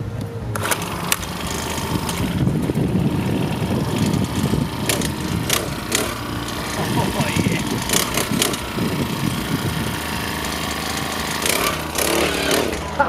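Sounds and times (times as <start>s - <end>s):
small gasoline engine running: 0.5s - 13.0s.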